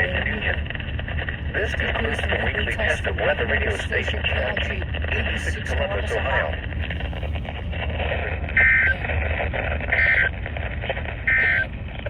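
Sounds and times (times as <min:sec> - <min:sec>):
low receiver hum: 0:00.0 - 0:12.0
radio static: 0:00.0 - 0:12.0.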